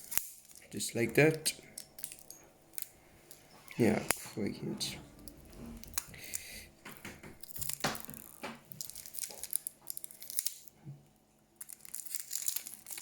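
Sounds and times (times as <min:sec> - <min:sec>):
plastic cover crinkling: 0:00.0 - 0:10.8, 0:11.6 - 0:13.0.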